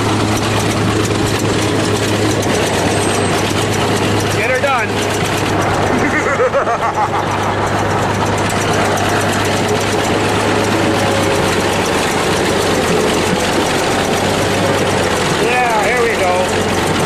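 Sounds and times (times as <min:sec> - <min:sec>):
bulldozer diesel engine rumbling: 0:00.0 - 0:17.0.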